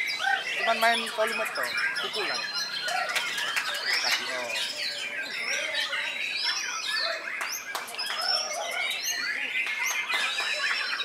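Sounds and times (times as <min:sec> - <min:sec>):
other songbirds singing: 0:00.0 - 0:11.0
songbird whistles and trills: 0:00.0 - 0:11.0.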